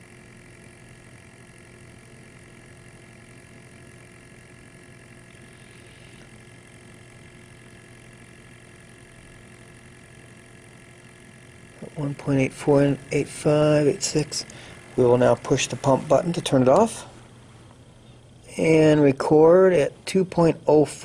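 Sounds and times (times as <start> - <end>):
sampling pump humming: 0.0 - 21.0.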